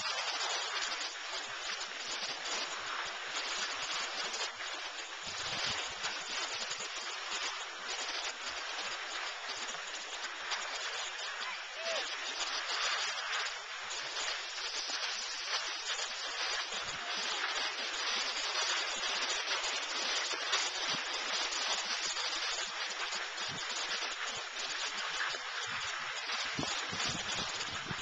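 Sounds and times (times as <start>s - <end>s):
skis scraping on snow: 0.0s - 28.0s.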